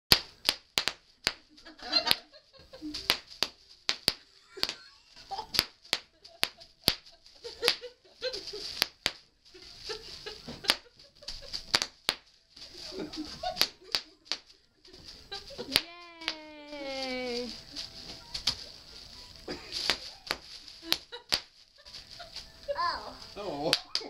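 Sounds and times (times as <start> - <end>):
bubble wrap popping: 0.1 - 24.0
plastic sheet crinkling: 0.1 - 24.0.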